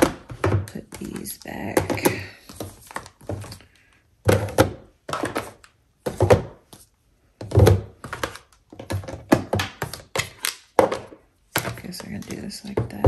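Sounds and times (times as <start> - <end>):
plastic palettes clacking: 0.0 - 6.8, 7.4 - 13.0.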